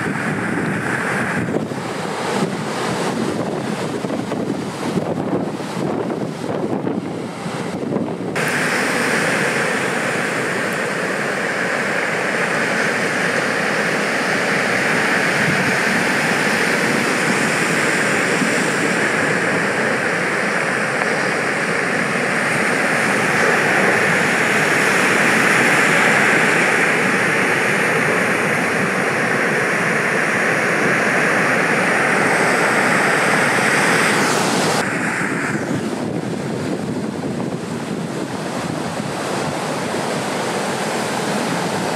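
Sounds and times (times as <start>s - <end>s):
sea surf breaking: 0.0s - 41.9s.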